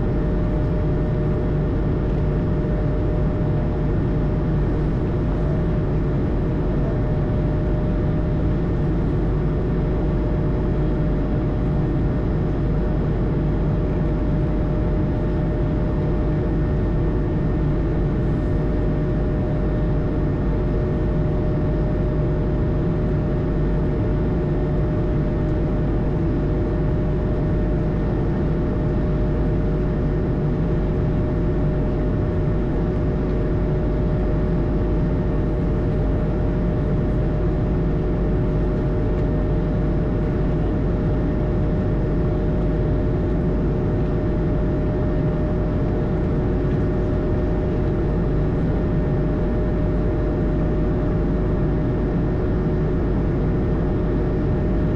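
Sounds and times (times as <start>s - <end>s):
aircraft engine hum: 0.0s - 54.9s.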